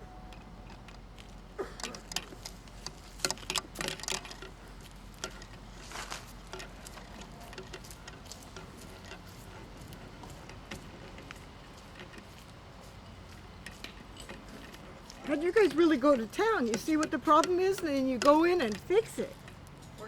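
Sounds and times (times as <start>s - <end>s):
low steady hum: 0.0s - 20.0s
plumbing parts clicking and clinking: 0.0s - 20.0s.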